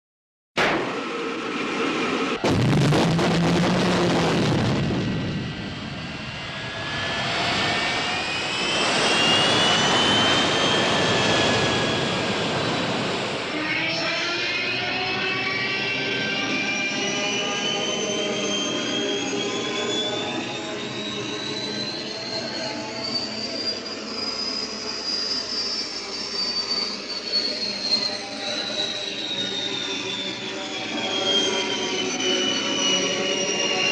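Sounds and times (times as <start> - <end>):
turbine engine spooling up: 0.6 - 33.9.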